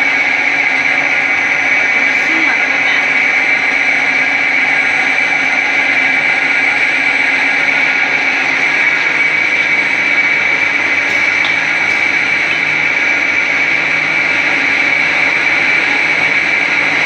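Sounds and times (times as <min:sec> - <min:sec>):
machine running: 0:00.0 - 0:17.0.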